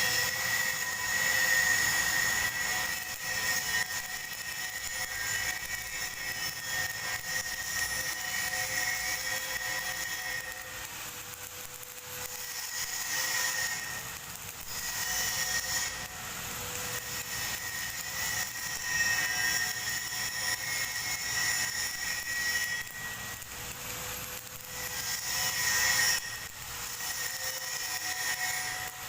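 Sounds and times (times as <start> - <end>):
arc welding crackling hiss: 0.0 - 29.0
thin whine: 0.0 - 29.0.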